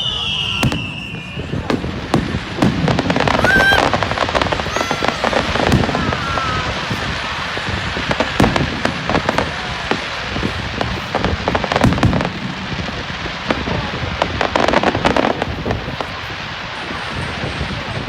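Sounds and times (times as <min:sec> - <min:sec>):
fireworks crackling and banging: 0:00.0 - 0:18.0.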